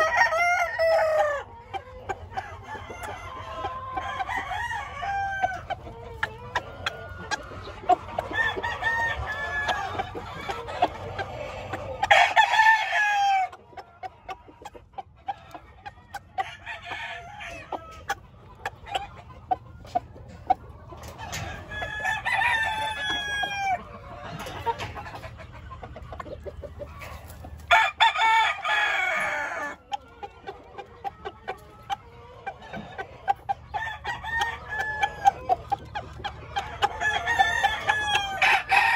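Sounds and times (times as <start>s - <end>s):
roosters crowing: 0.0s - 14.1s, 15.4s - 18.2s, 21.0s - 25.3s, 26.8s - 30.0s, 31.8s - 38.9s.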